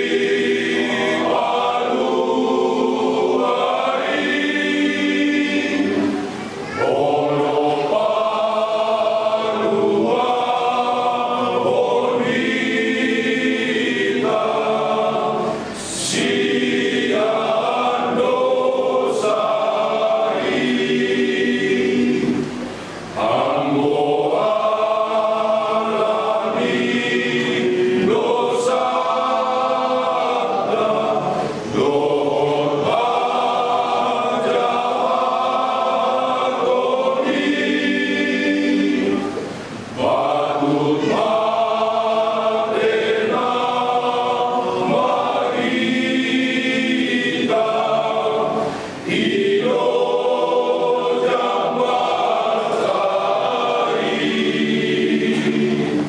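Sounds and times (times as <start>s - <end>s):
men's choir singing: 0.0s - 56.0s.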